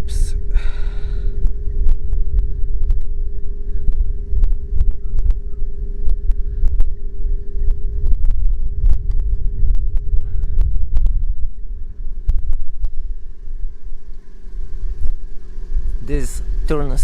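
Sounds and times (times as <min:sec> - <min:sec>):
heavy low rumble: 0:00.0 - 0:17.0
steady hum: 0:00.0 - 0:17.0.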